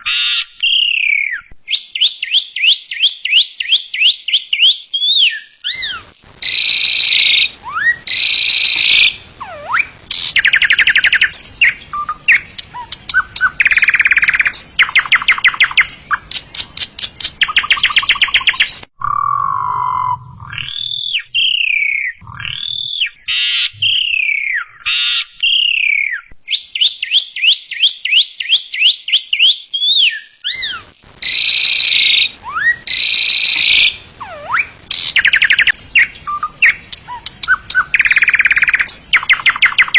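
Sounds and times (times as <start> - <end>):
myna calling with rattles and whistles: 0.0 - 39.9.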